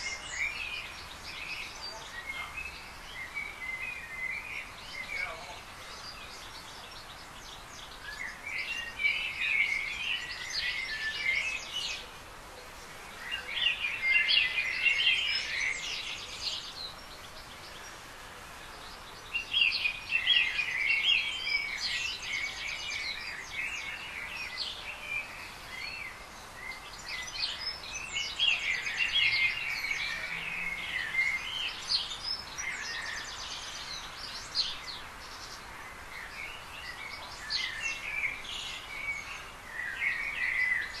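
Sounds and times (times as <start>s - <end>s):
faint background hiss: 0.0s - 41.0s.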